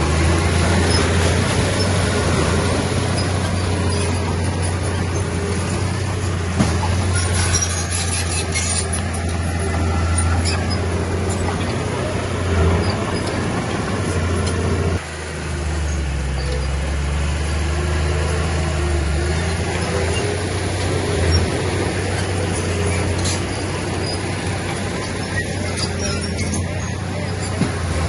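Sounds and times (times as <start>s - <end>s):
heavy diesel engine humming: 0.0s - 28.0s.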